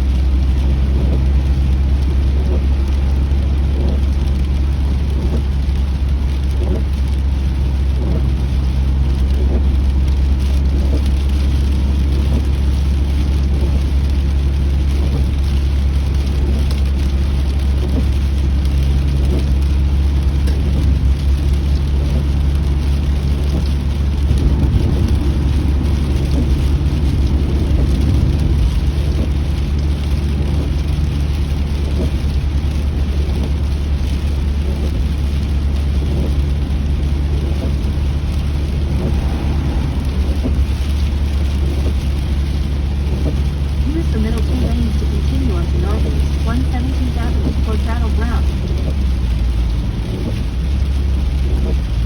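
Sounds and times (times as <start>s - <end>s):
car road and engine rumble: 0.0s - 52.0s
rain pattering on car roof: 0.0s - 52.0s.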